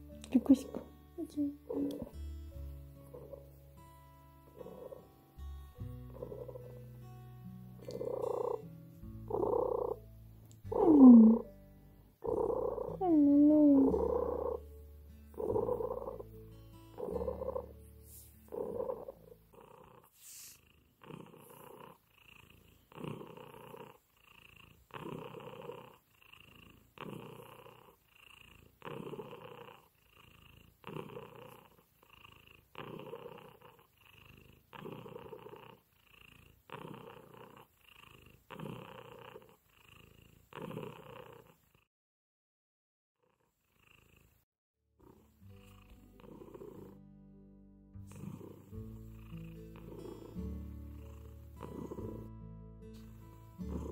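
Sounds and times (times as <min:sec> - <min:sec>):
cat purring: 0:00.0 - 0:41.9, 0:43.2 - 0:47.1, 0:48.0 - 0:53.9.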